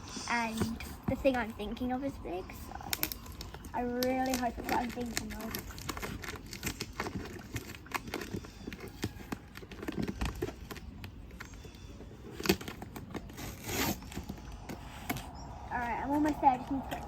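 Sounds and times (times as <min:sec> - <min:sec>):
tape rustle: 0:00.6 - 0:17.0
tape scratching and clicking: 0:02.6 - 0:17.0.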